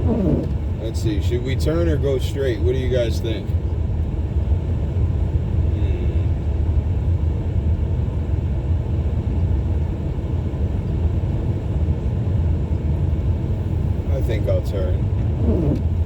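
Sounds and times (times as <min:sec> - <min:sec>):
car engine rumble: 0:00.0 - 0:16.0
tyres on snowy road: 0:00.0 - 0:16.0.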